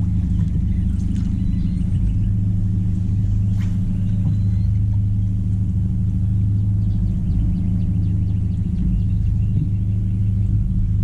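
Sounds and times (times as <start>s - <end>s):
electric trolling motor humming: 0.0s - 11.0s.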